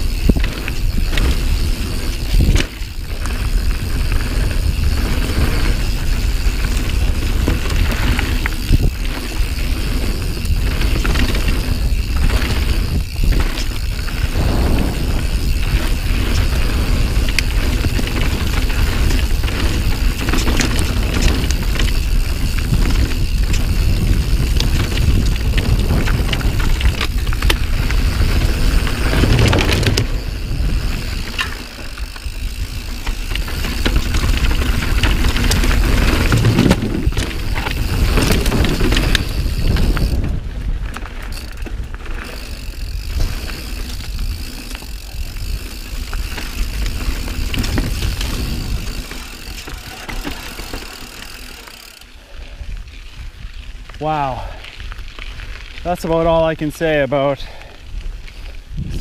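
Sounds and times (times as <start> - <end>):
bike rattles and clicks: 0.0 - 59.0
bike rolling across wooden bridge: 0.0 - 59.0
bike tyre noise: 0.0 - 59.0
wind rumble on microphone: 0.0 - 59.0.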